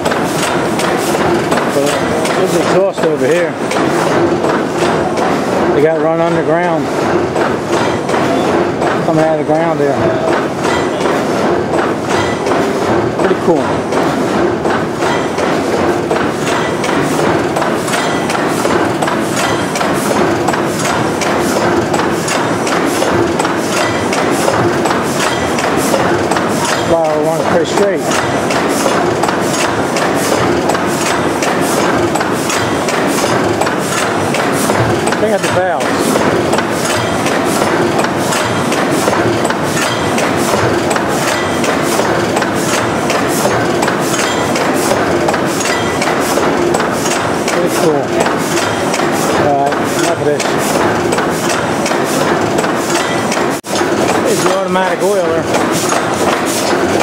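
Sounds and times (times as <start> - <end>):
sharp clicking knocks: 0.0 - 57.0
stationary gas engines running: 0.0 - 57.0
valve gear clattering: 0.0 - 57.0.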